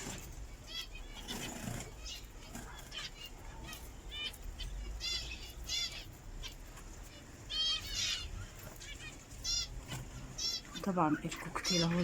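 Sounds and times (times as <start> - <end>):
parrots chirping: 0.0 - 12.0.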